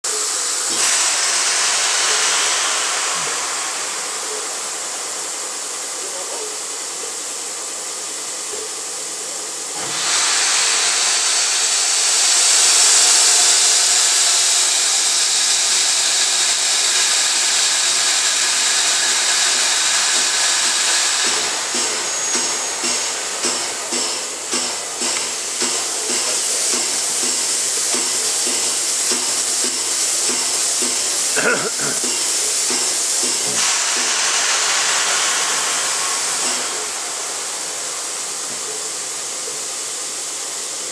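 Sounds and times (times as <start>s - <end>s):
steam locomotive hissing: 0.0s - 40.9s.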